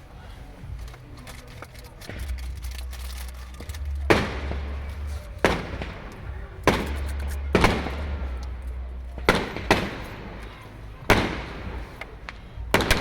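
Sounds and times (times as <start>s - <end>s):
fireworks bangs: 1.9s - 13.0s.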